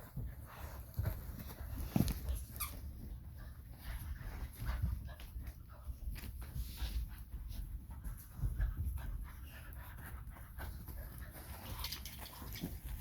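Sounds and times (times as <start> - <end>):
dogs panting: 0.0 - 13.0
light knocks and scuffles: 0.0 - 13.0.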